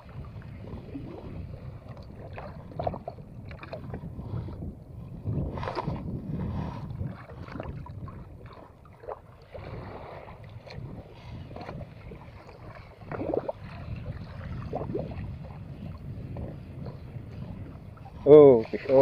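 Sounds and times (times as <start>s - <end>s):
water washing against boat hull: 0.0s - 4.7s, 5.3s - 19.0s
wind rumbling on microphone: 0.0s - 19.0s.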